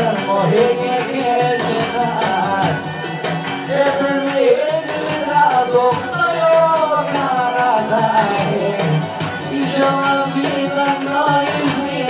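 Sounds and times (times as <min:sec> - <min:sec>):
pop-folk music: 0:00.0 - 0:12.0.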